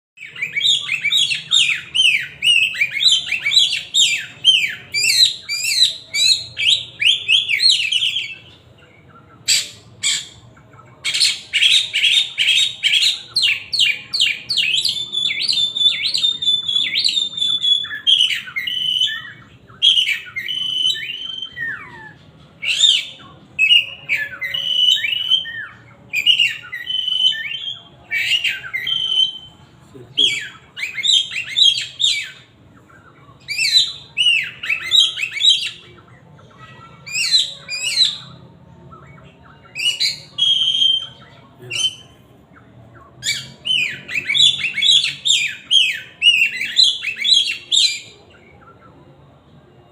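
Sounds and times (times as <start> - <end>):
bird singing whistled notes: 0.2 - 10.4, 11.0 - 49.2.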